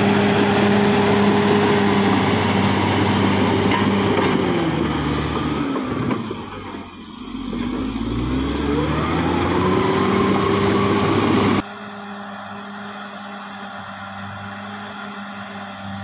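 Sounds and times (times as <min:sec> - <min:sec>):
bulldozer diesel engine revving: 0:00.0 - 0:16.0.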